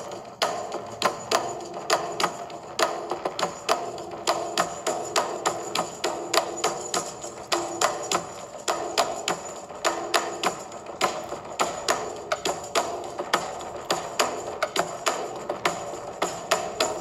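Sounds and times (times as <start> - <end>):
percussive background music: 0.0 - 17.0.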